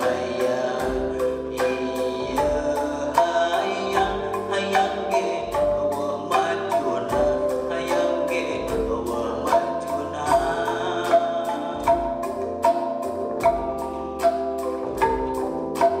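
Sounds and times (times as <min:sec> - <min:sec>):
bamboo percussion struck with mallets: 0:00.0 - 0:16.0
bass guitar: 0:00.0 - 0:16.0
drums: 0:00.0 - 0:16.0
keyboard: 0:00.0 - 0:16.0.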